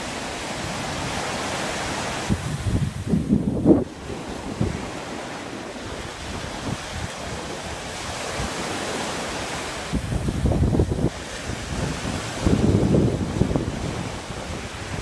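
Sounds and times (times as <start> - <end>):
sea surf washing in: 0.0 - 15.0
wind rumbling on microphone: 0.0 - 15.0.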